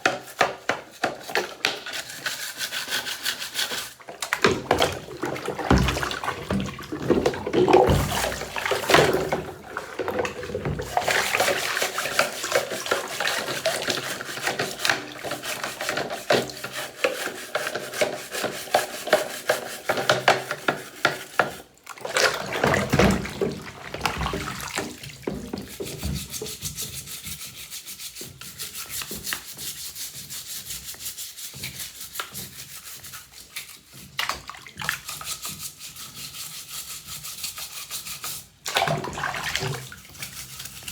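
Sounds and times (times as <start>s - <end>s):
scrubbing in soapy water: 0.3s - 40.9s.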